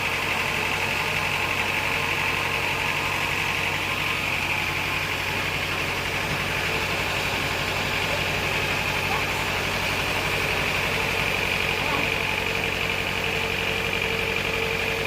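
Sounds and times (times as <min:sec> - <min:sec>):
bandsaw machinery humming and whining: 0:00.0 - 0:15.0.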